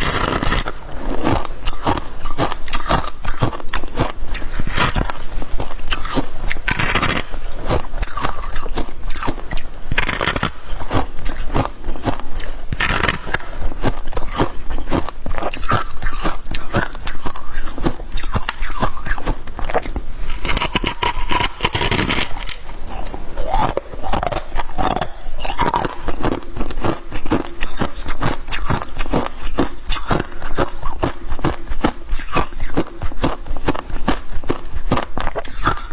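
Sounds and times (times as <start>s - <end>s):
frost crunching when chewed: 0.0s - 35.9s.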